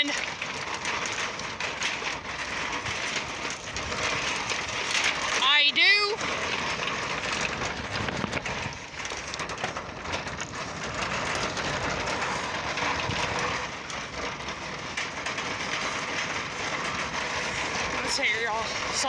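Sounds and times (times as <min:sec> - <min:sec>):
shopping cart rattling on pavement: 0:00.0 - 0:19.0.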